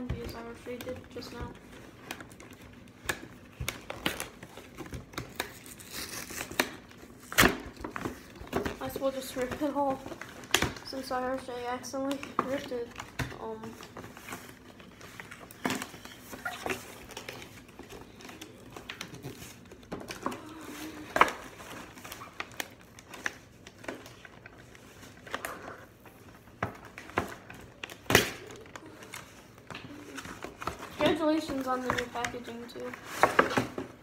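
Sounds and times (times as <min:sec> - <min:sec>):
packaging crinkling and rustling: 0:00.0 - 0:34.0.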